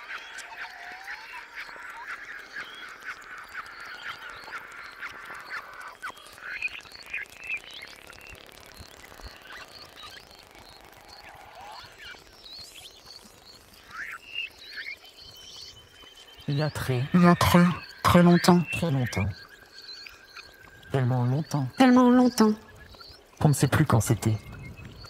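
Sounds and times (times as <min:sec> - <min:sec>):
chorus of animal calls and clicks: 0:00.0 - 0:25.0.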